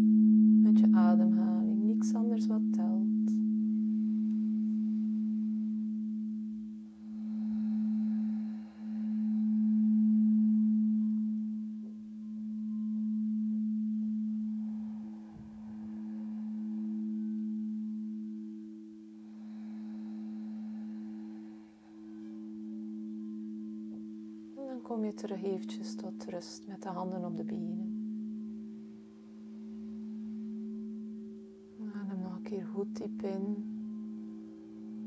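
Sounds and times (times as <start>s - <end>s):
singing bowl humming: 0.0s - 35.0s.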